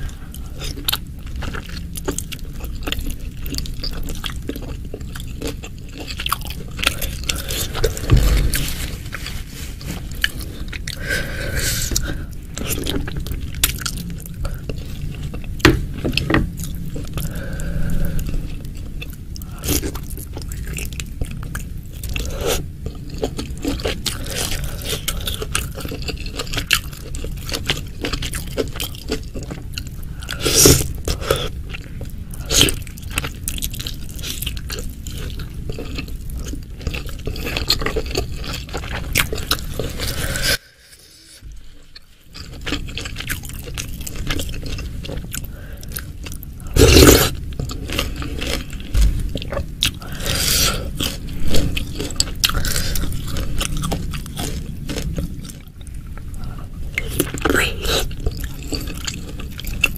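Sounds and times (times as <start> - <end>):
chewing and biting food: 0.0 - 40.5, 41.4 - 59.9.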